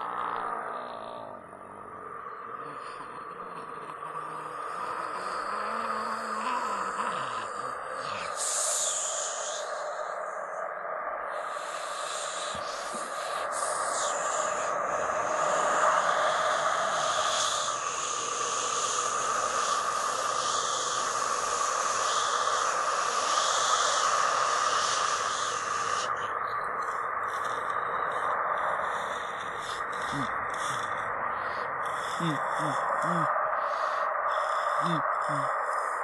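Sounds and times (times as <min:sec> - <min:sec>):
hissing drone: 0:00.0 - 0:36.0.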